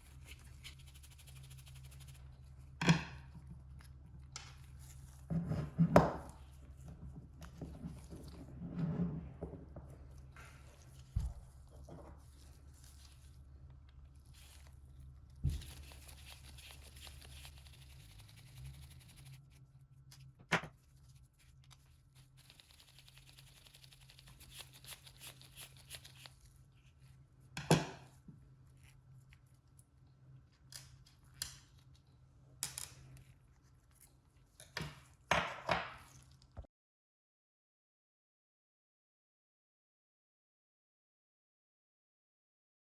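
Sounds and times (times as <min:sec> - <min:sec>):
low steady hum: 0:00.0 - 0:34.6.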